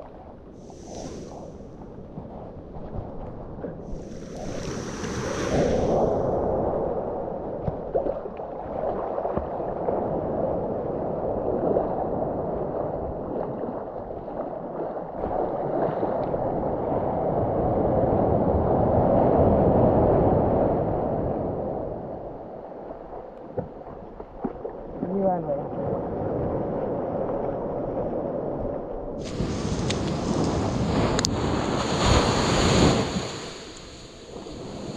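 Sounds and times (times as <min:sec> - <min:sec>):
shallow surf washing: 0:00.0 - 0:08.2, 0:08.8 - 0:23.3, 0:25.0 - 0:34.9
water sloshing and gurgling: 0:00.0 - 0:34.9.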